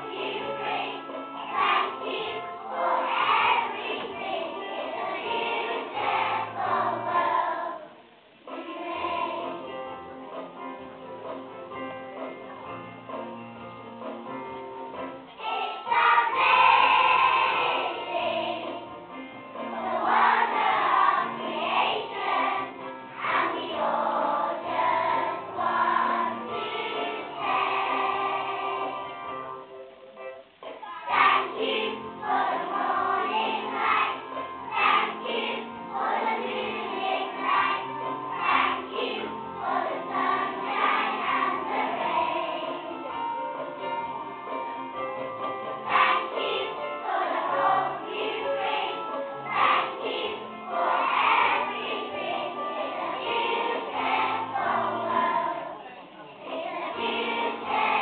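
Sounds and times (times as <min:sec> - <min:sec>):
children's choir singing: 0:00.0 - 0:11.0, 0:15.2 - 0:29.4, 0:30.7 - 0:58.0.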